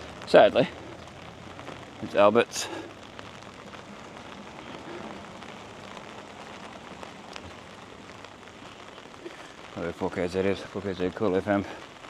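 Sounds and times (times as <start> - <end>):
rain hiss: 0.0 - 12.0
raindrops ticking: 0.0 - 12.0.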